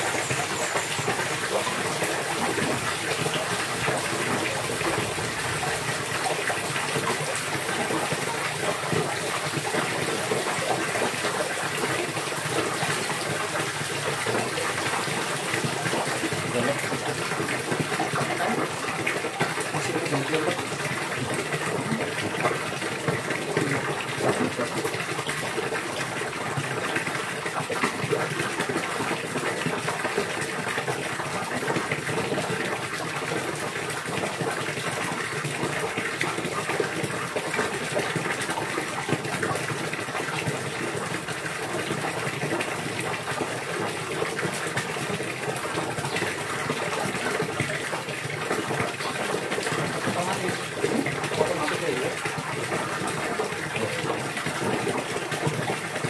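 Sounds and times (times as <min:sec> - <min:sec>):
gushing splashing water: 0:00.0 - 0:56.0.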